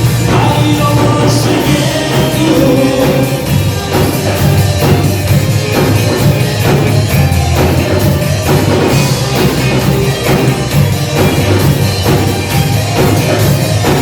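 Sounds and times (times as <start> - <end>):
bass guitar: 0.0 - 14.0
drum kit steady beat: 0.0 - 14.0
electric guitar: 0.0 - 14.0.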